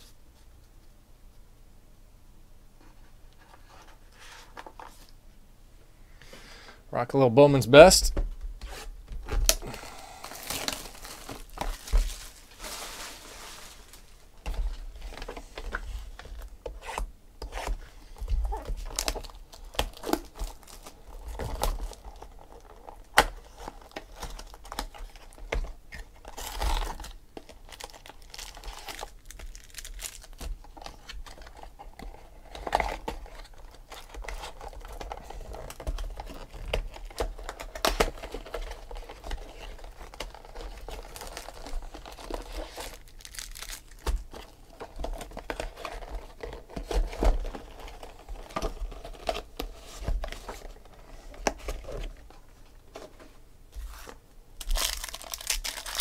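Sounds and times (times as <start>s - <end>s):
plastic wrap crinkling and tearing: 9.2s - 52.5s, 53.9s - 56.0s.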